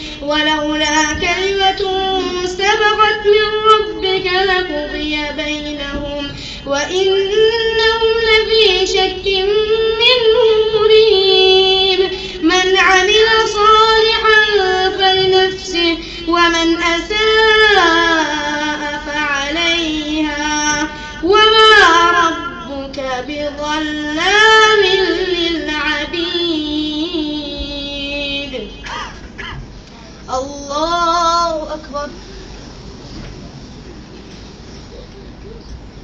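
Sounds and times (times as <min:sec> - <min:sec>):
high voice chanting recitation: 0:00.4 - 0:29.6, 0:30.2 - 0:32.4.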